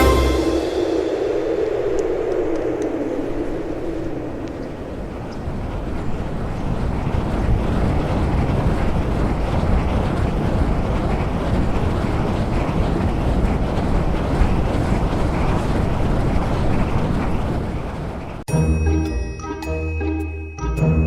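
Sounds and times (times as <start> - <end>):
wind rushing: 0.0 - 18.5.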